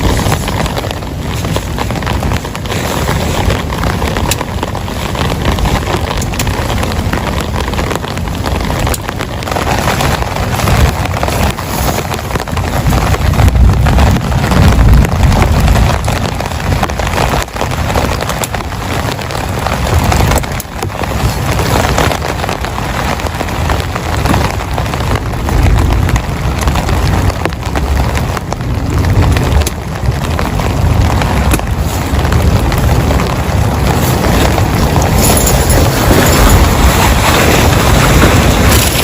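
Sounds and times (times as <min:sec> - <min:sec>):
deep low rumble: 0:00.0 - 0:39.0
heavy rain falling: 0:00.0 - 0:39.0
raindrops striking close by: 0:00.0 - 0:39.0.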